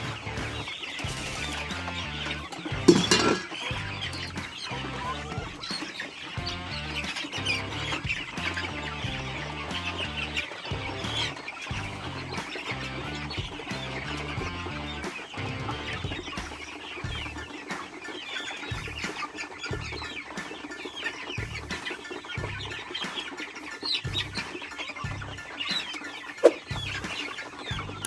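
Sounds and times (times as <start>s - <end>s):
music with bass beat: 0.0s - 18.0s, 18.6s - 20.5s, 21.2s - 28.0s
chicks chirping and clucking: 0.0s - 28.0s.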